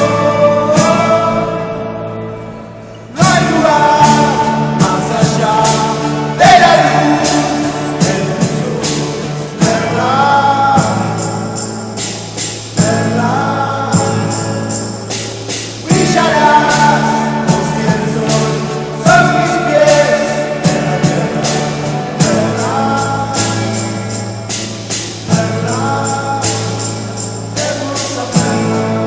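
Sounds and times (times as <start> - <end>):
person singing: 0.0 - 2.4, 3.1 - 29.0
band playing a song: 0.0 - 29.0
drum and cymbal hits: 3.2 - 29.0.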